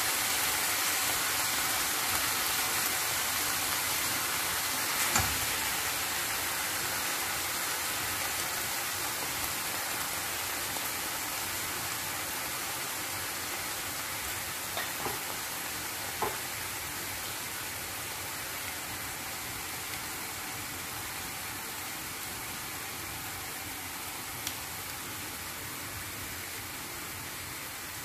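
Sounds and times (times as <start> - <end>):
chicken sizzling in hot oil: 0.0 - 28.0.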